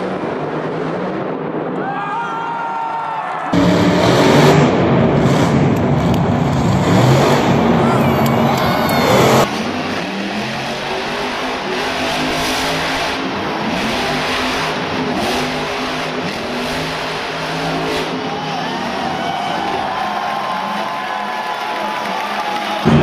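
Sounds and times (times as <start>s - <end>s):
monster truck engine revving: 0.0s - 2.0s, 3.5s - 23.0s.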